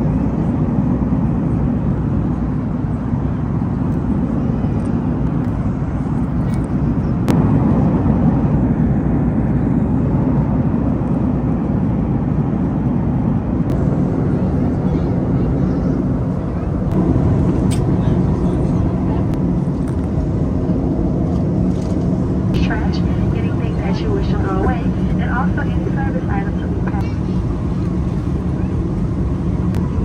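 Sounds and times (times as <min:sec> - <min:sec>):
airliner engine drone in cabin: 0:00.0 - 0:30.0.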